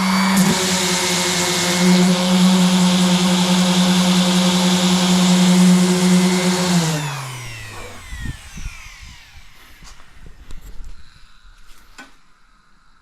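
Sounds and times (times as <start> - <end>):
electric sander running: 0.0 - 11.7.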